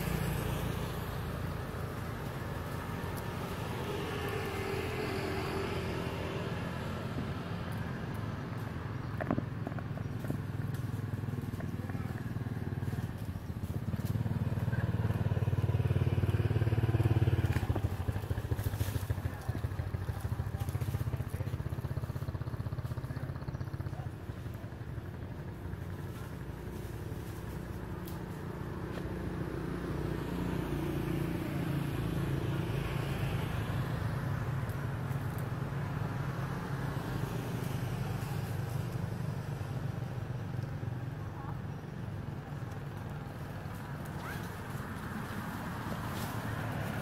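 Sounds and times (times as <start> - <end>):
faint voices: 0.0 - 47.0
motor vehicle engine running: 0.0 - 47.0.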